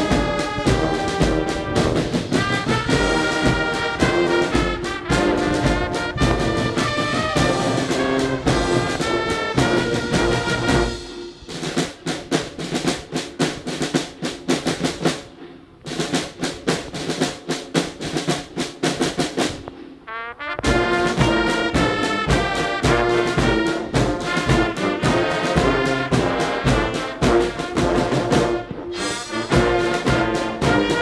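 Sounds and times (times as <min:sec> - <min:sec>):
steady drum beat: 0:00.0 - 0:19.7, 0:20.4 - 0:31.0
military brass band march: 0:00.0 - 0:31.0.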